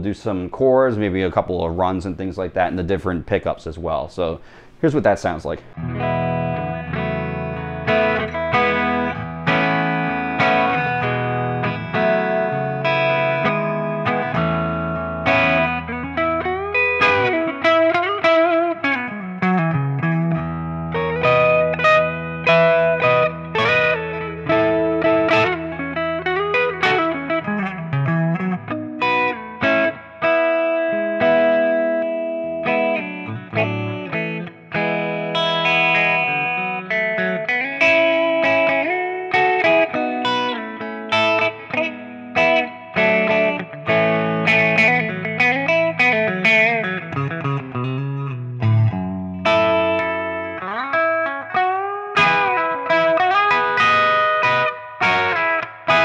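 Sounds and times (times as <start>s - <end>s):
clean electric guitar with reverb: 5.3s - 56.0s.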